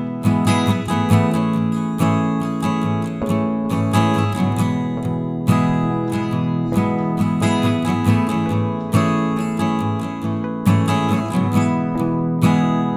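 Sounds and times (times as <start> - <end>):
strummed acoustic guitar: 0.0 - 12.9.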